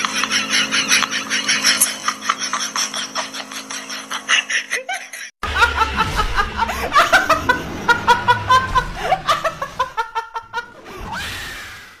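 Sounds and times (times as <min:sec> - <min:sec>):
woman laughing hard: 0:00.0 - 0:10.8.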